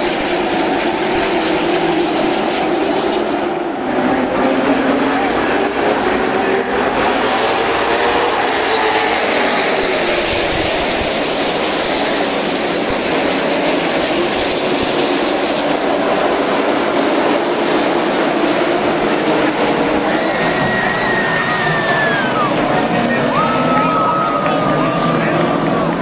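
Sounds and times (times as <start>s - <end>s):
racing car engines droning: 0.0s - 26.0s.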